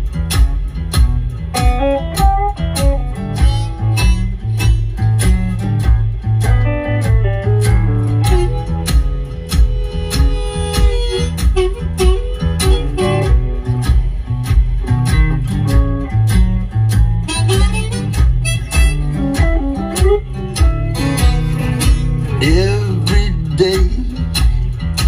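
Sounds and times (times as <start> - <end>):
guitar music with heavy bass: 0.0 - 25.0.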